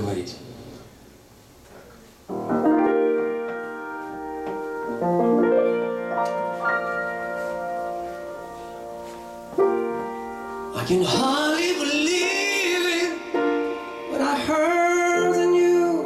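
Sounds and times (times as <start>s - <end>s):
piano chords: 2.2s - 16.0s.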